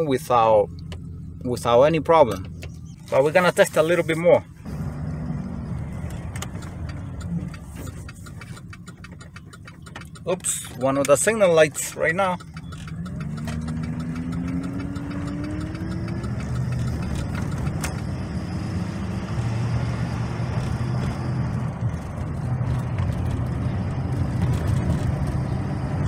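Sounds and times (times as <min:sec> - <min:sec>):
road noise: 0:00.0 - 0:26.0
truck engine accelerating: 0:00.0 - 0:26.0.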